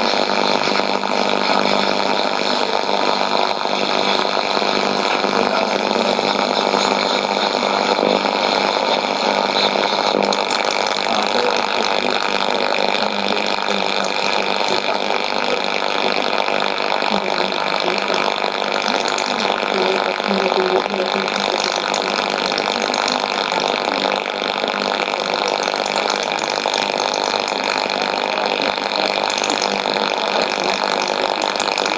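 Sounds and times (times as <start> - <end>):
shortwave radio static hiss: 0.0 - 31.9.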